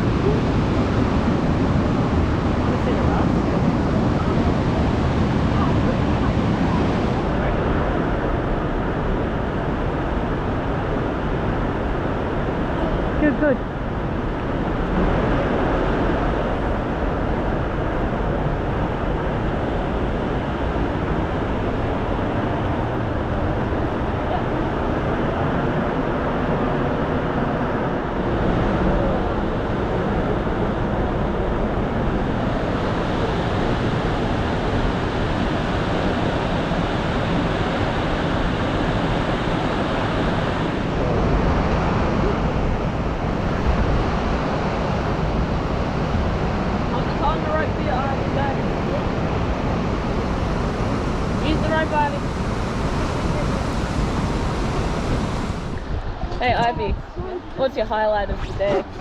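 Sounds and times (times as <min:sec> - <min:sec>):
river water rushing: 0:00.0 - 0:59.0
wind buffeting microphone: 0:00.0 - 0:59.0.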